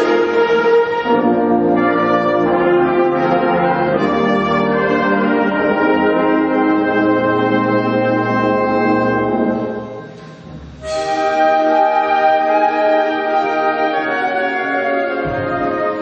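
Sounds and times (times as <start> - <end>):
concert band playing brass chords: 0.0 - 16.0.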